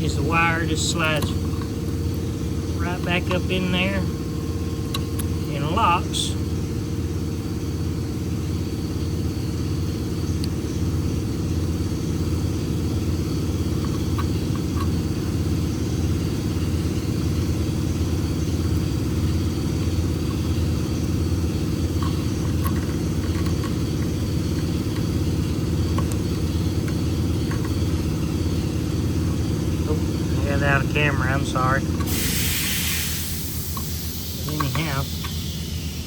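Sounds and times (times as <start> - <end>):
motor humming: 0.0 - 36.0.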